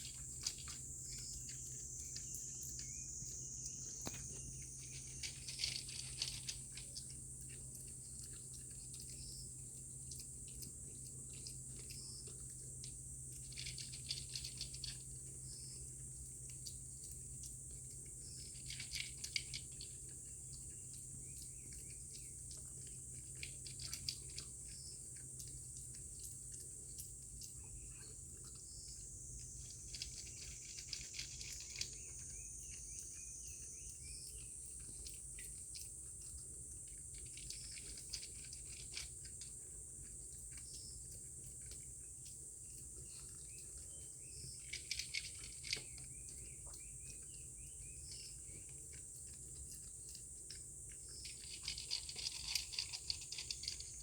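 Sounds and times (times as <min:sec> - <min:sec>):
high-pitched insect chorus: 0:00.0 - 0:10.3, 0:13.2 - 0:54.0.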